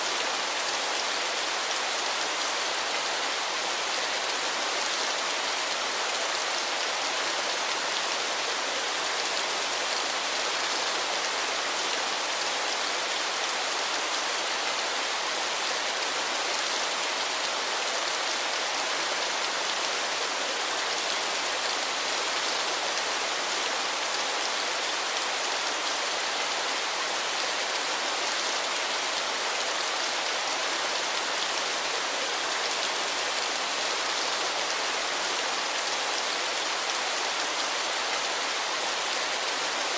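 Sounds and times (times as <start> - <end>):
waterfall: 0.0 - 39.9.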